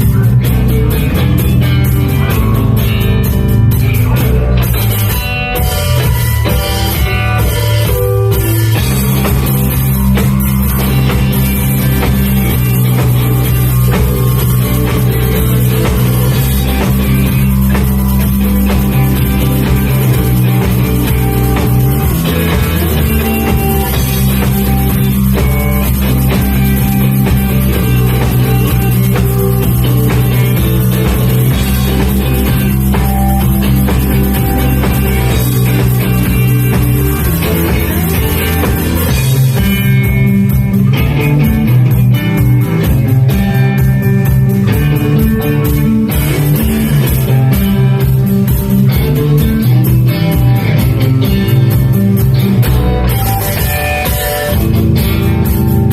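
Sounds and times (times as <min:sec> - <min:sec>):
rock band playing: 0:00.0 - 0:55.9
sustained low bass notes: 0:00.0 - 0:55.9.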